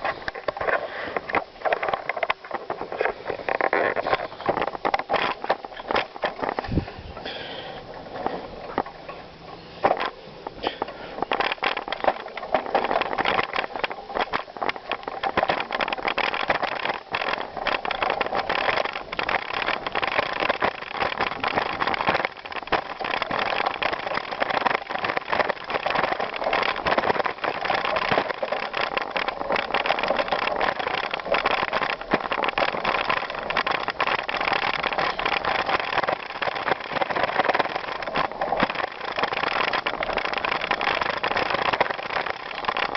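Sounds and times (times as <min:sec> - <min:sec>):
bicycle tyres crunching on gravel: 0:00.0 - 0:42.9.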